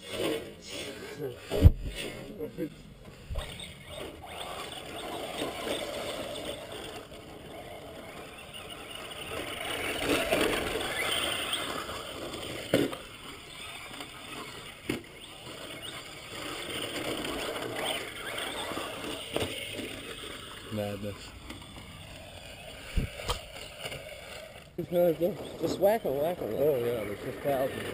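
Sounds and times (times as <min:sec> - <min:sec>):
rc truck rushing through sand: 0:00.0 - 0:27.9.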